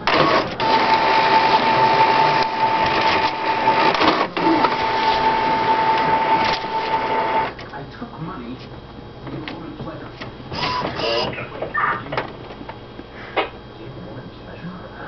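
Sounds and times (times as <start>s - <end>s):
printer motor whine and rattling: 0.0s - 15.0s.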